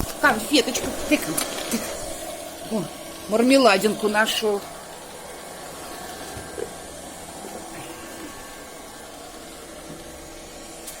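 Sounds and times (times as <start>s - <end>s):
robot vacuum cleaner whirring: 0.0s - 11.0s.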